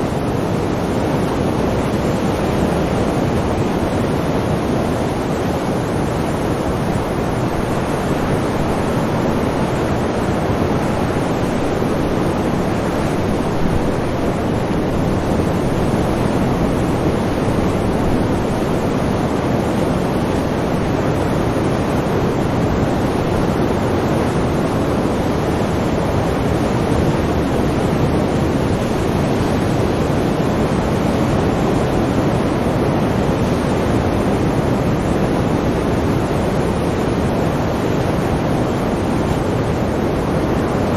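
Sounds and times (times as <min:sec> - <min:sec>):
sea waves rushing: 0:00.0 - 0:40.9.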